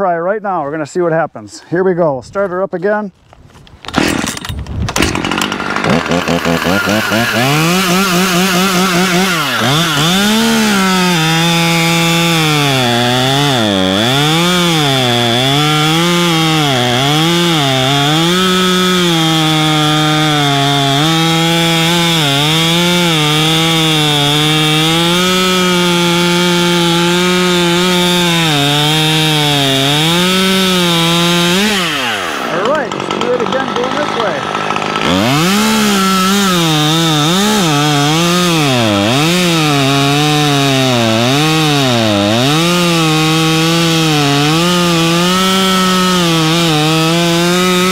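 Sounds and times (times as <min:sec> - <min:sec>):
chainsaw cutting through log: 0:03.9 - 0:47.9.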